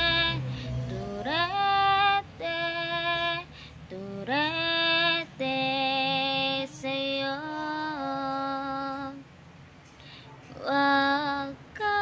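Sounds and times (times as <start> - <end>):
woman singing unaccompanied: 0.0 - 9.3, 10.5 - 12.0.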